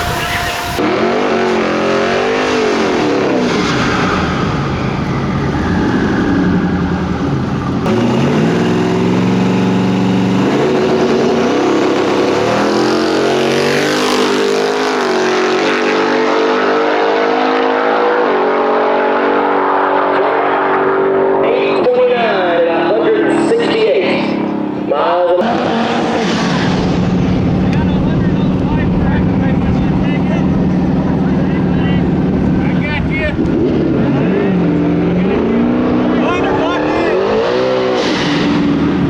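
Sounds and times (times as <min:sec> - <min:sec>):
drag racing cars at full throttle: 0:00.0 - 0:39.0.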